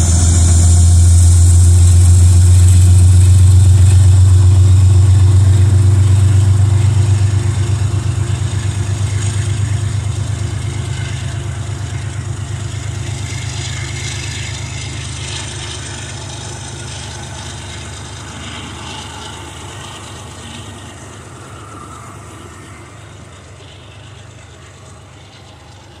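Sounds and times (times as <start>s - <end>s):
low diesel engine hum: 0.0s - 26.0s
train wheels clattering: 0.0s - 26.0s.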